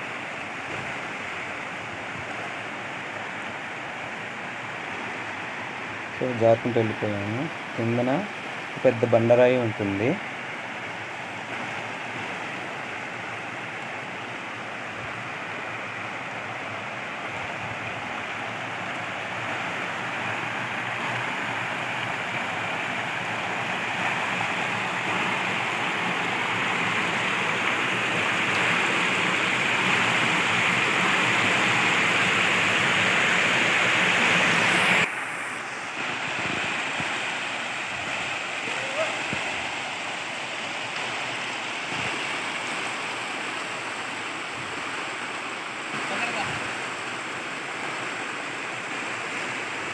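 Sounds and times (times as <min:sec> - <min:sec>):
water rushing over rock: 0:00.0 - 0:49.9.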